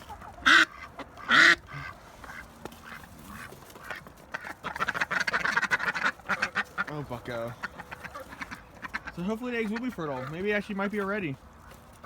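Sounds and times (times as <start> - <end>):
ducks quacking: 0.0 - 11.1.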